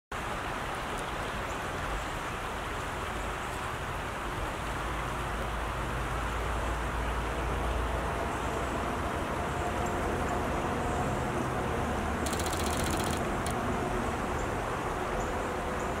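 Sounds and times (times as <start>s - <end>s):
creek water over rocks: 0.1s - 16.0s.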